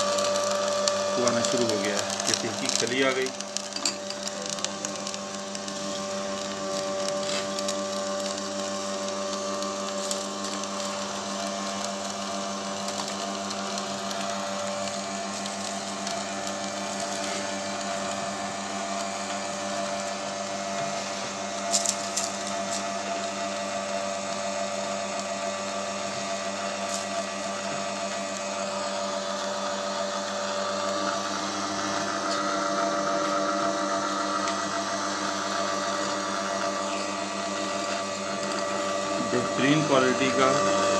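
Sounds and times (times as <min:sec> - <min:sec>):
oil press motor humming: 0:00.0 - 0:40.9.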